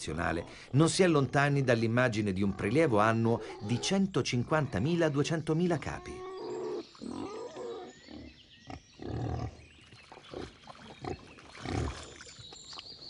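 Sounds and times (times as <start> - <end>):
wild boar grunting: 0.0 - 5.2, 5.8 - 12.1.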